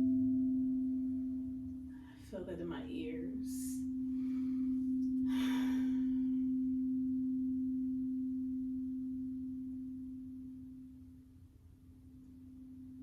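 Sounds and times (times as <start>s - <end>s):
singing bowl ringing: 0.0s - 13.0s.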